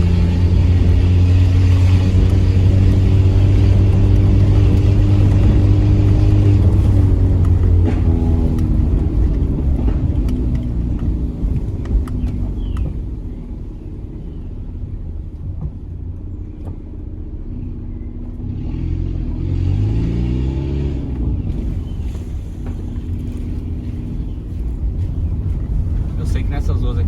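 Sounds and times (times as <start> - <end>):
rumbling car exhaust: 0.0 - 27.0.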